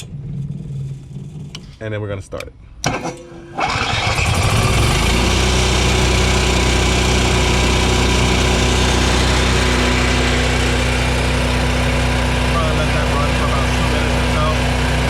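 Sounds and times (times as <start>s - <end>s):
generator running: 2.8s - 15.0s.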